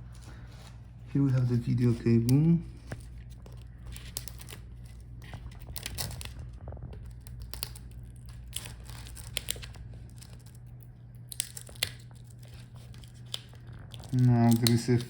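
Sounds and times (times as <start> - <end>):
crinkly rustling: 0.0 - 15.0
steady low hum: 0.0 - 15.0.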